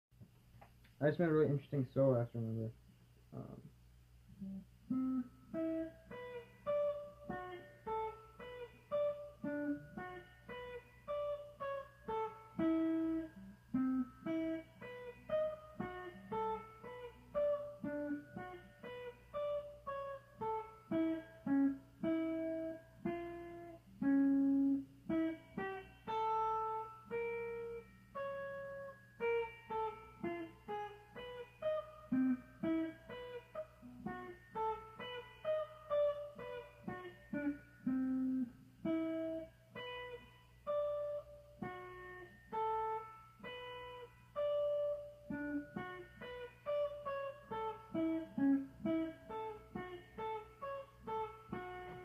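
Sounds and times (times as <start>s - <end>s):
low steady hum: 0.2s - 52.0s
electric guitar solo: 4.4s - 52.0s.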